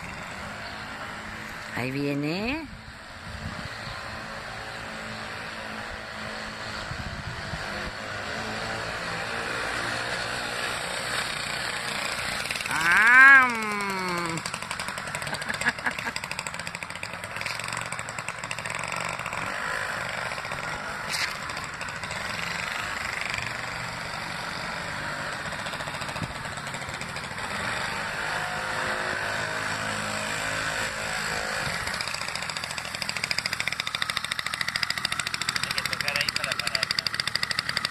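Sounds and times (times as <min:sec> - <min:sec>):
moped engine running: 0:00.0 - 0:37.9.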